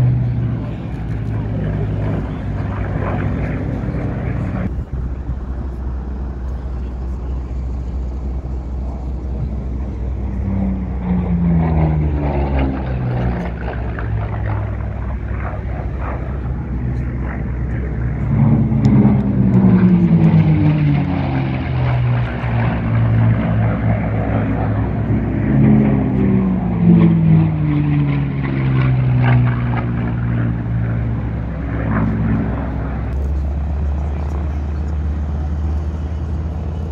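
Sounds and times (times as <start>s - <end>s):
low engine rumble: 0.0s - 36.9s
racing planes flying past: 0.0s - 36.9s.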